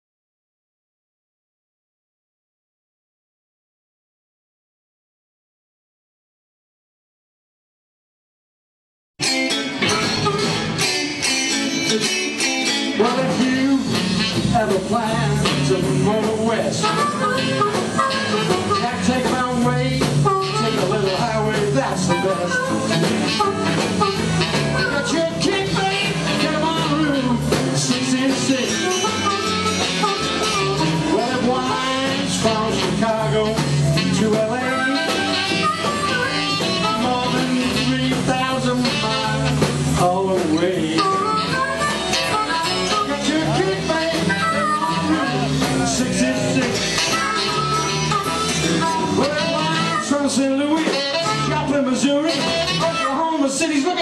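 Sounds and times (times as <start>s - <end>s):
blues harmonica: 9.2s - 53.5s
saxophone: 9.2s - 53.5s
bass: 9.2s - 54.0s
drum kit: 9.2s - 54.0s
electric guitars: 9.2s - 54.0s.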